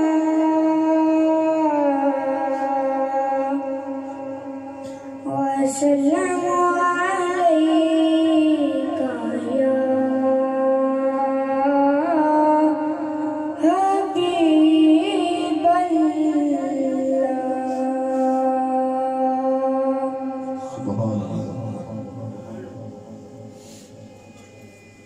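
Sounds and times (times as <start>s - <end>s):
boy singing into microphone: 0.0s - 23.9s.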